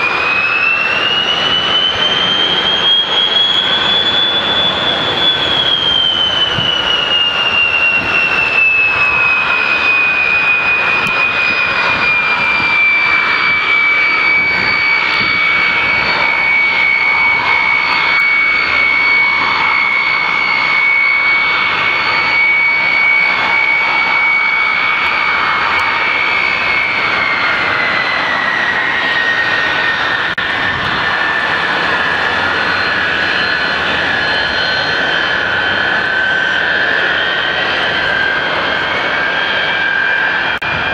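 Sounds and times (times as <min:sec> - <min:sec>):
jet engines whining and roaring: 0:00.0 - 0:40.9.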